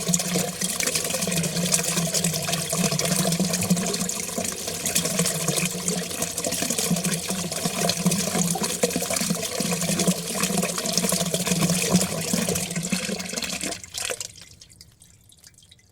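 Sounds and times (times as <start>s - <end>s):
water running down a drain: 0.0s - 15.9s.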